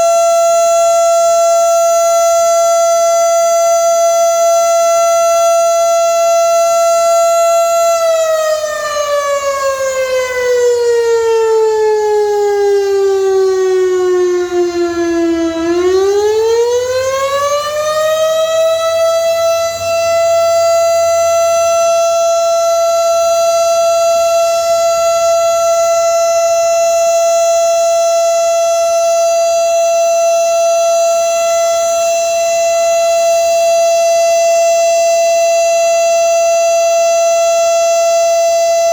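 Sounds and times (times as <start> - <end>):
warning siren: 0.0 - 38.9.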